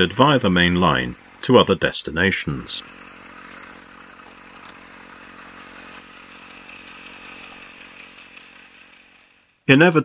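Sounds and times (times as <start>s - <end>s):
model locomotive engine drone: 0.0s - 9.7s.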